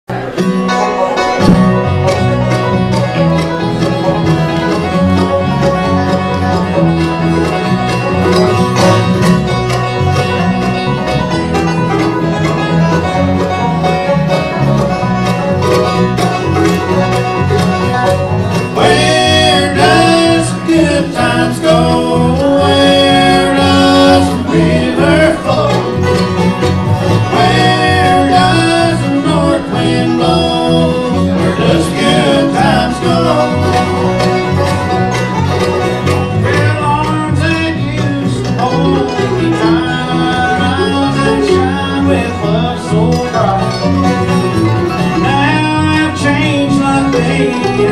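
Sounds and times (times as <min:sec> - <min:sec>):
guitar: 0:00.0 - 0:47.9
banjo: 0:00.1 - 0:47.9
wavering lead melody: 0:00.2 - 0:47.9.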